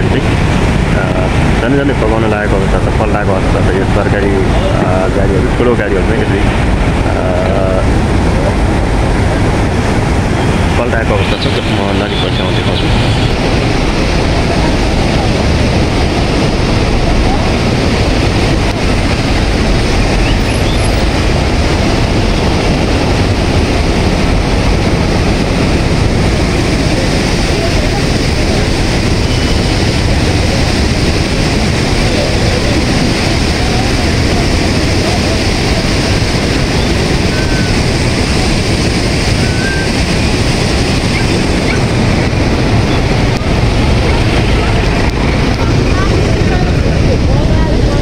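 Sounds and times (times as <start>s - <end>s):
turbulent river water rushing: 0.0s - 48.0s.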